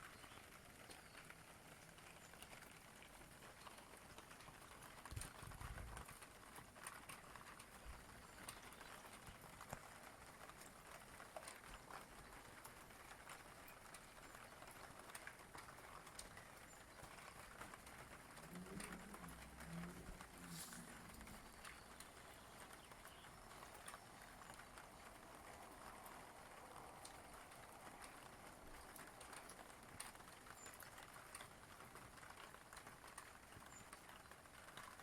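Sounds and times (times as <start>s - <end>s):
rain hiss: 0.0s - 35.0s
raindrops ticking: 0.0s - 35.0s.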